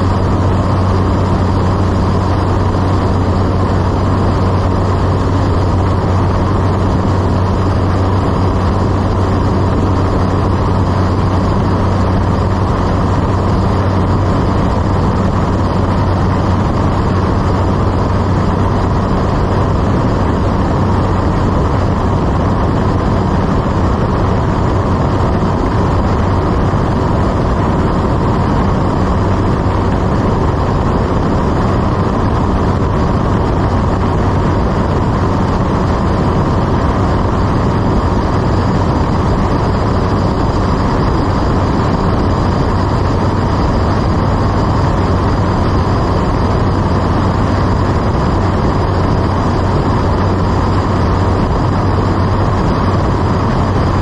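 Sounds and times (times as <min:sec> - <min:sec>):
airflow noise: 0:00.0 - 0:54.0
propeller plane engine drone: 0:00.0 - 0:54.0.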